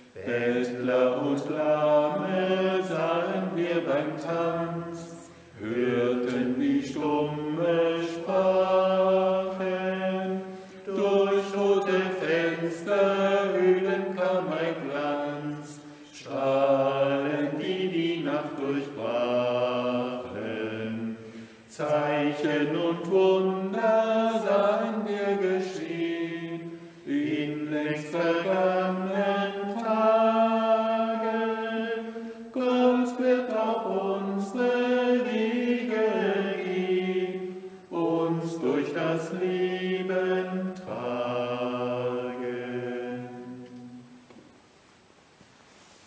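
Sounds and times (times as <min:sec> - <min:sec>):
voices singing a hymn: 0:00.0 - 0:44.6.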